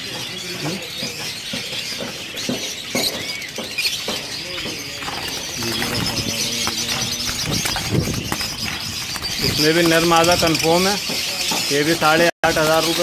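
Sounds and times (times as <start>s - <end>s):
parakeets chirping and chattering: 0.0s - 13.0s.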